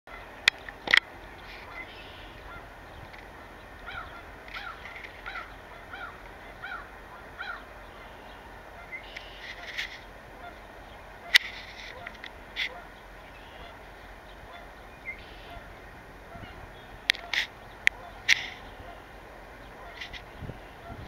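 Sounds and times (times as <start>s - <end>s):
gull calling: 0.1s - 21.0s
outdoor hiss: 0.2s - 20.8s.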